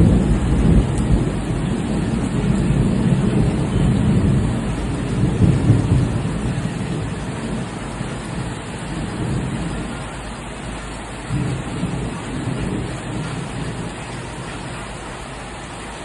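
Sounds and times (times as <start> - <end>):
heavy low rumble: 0.0 - 16.0
steady rain falling: 0.0 - 16.0.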